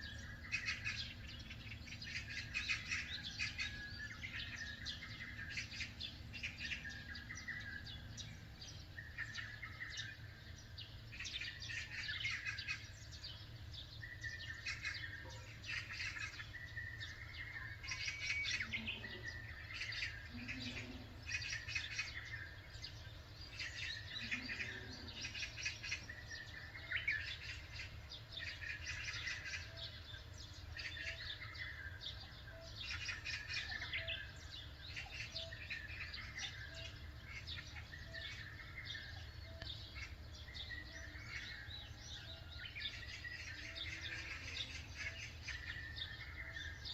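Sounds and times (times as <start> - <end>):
small birds chirping and singing: 0.0 - 46.9.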